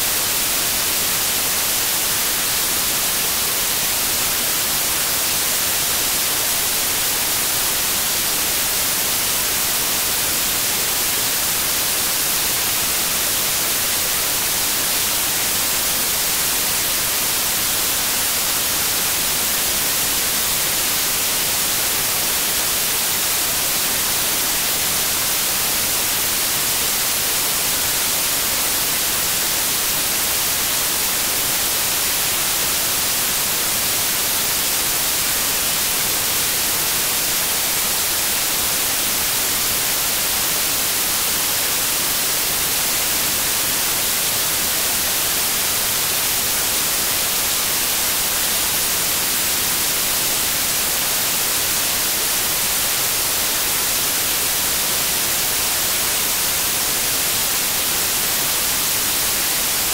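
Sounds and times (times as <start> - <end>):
steady hiss noise: 0.0 - 59.9.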